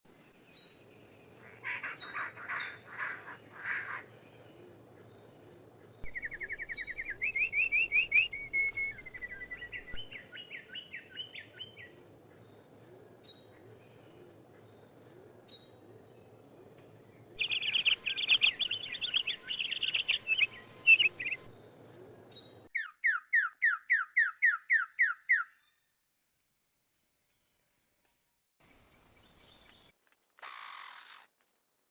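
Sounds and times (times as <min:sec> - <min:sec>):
songbirds chirping trills: 0:00.2 - 0:25.9.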